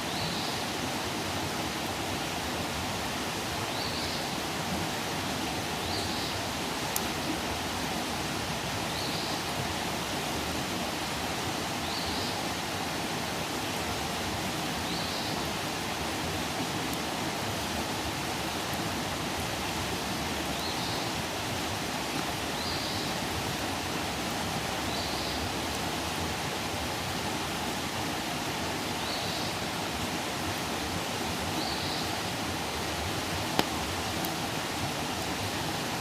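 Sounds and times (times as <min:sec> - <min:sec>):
campfire hissing and crackling: 0:00.0 - 0:36.0.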